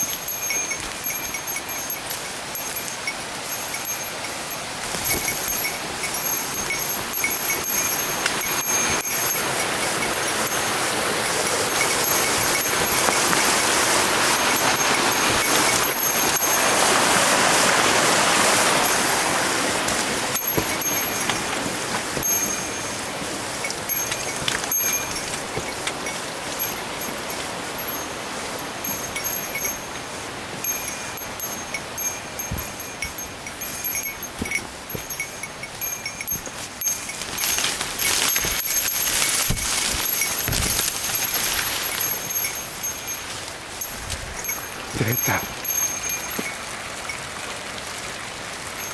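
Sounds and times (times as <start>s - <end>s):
small bell jingling: 0.0s - 47.4s
stream water running: 0.0s - 48.9s.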